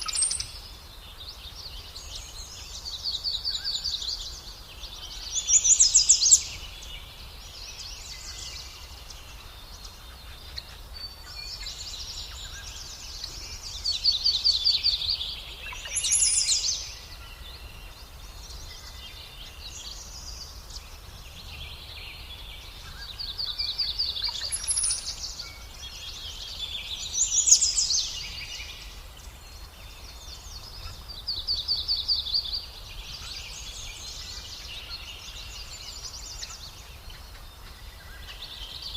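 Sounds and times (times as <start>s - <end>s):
small birds trilling: 0.0s - 38.9s.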